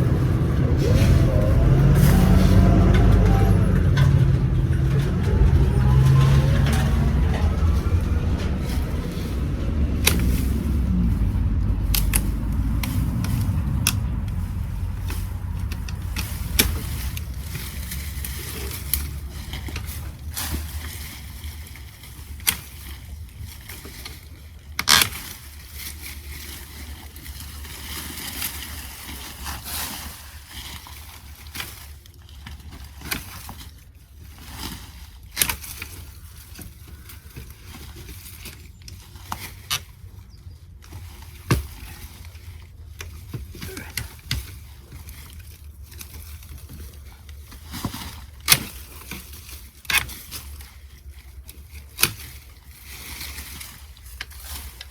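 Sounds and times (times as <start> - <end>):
rustle of leafy branches: 0.0 - 54.9.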